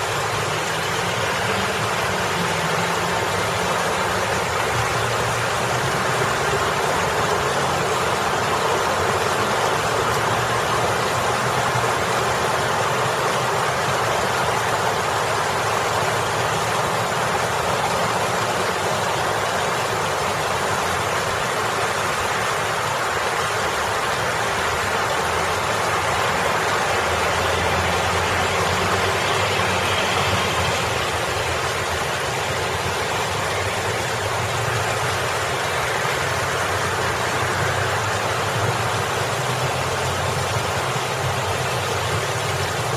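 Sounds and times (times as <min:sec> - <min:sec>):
road traffic rumbling: 0:00.0 - 0:42.9.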